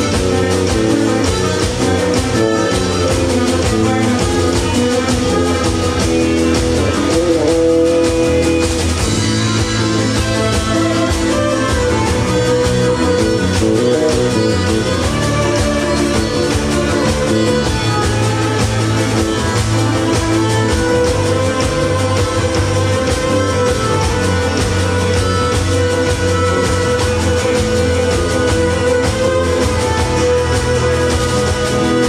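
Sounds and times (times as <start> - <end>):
accordion: 0.0 - 32.0
acoustic guitar: 0.0 - 32.0
electric bass: 0.0 - 32.0
violin: 0.0 - 32.0.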